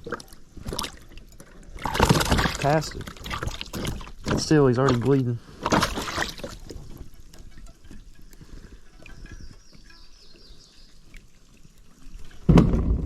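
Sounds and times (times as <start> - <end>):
creek water trickling and lapping: 0.0 - 13.0.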